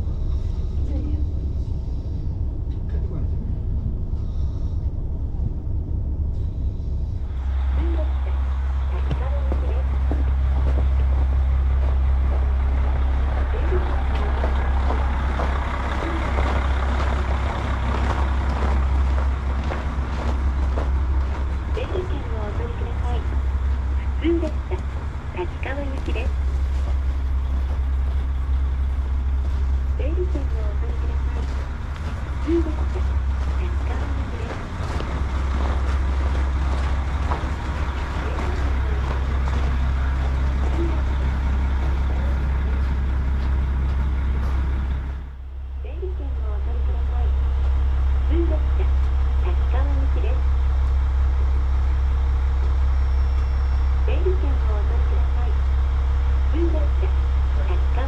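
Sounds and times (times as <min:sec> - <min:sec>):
railcar engine drone: 0:00.0 - 0:58.0
wheels rumbling on rails: 0:00.0 - 0:58.0.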